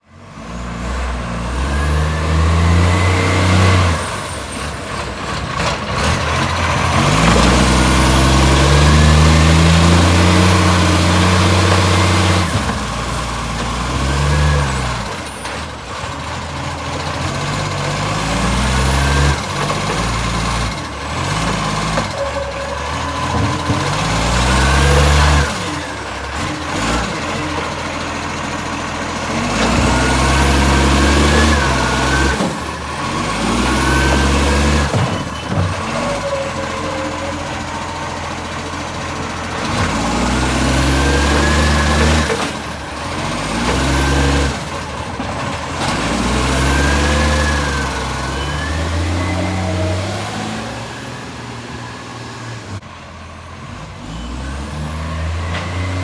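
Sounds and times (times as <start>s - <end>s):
garbage truck engine revving: 0.1s - 56.0s.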